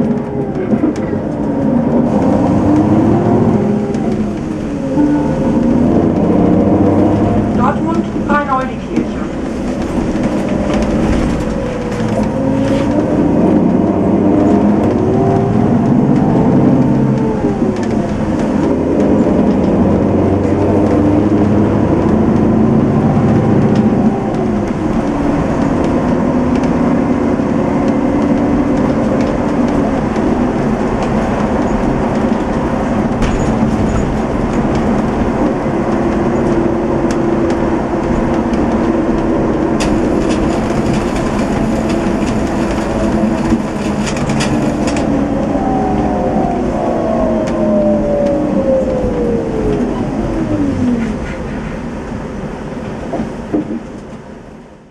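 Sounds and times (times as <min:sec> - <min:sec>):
bus diesel engine: 0:00.0 - 0:54.9
road rumble: 0:00.0 - 0:54.9.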